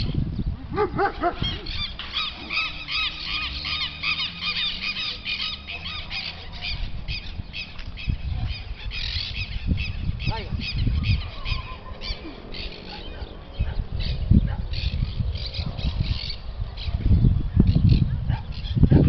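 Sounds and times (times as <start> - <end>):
birds making harsh calls: 0.8 - 19.0.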